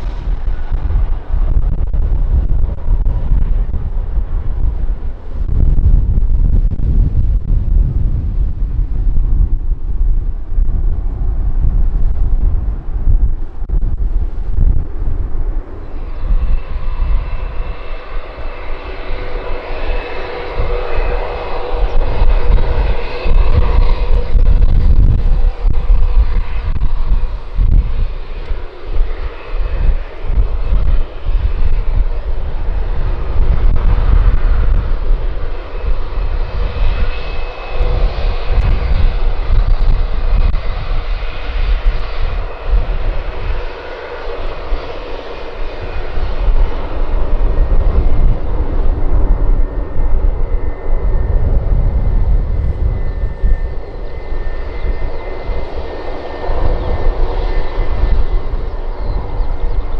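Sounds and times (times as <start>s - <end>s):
jet engines whining: 0.0s - 59.9s
wind rumbling on microphone: 0.0s - 59.9s.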